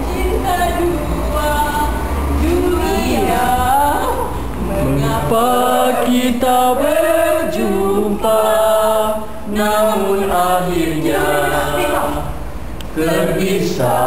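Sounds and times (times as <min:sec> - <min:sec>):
people singing together: 0:00.0 - 0:14.0.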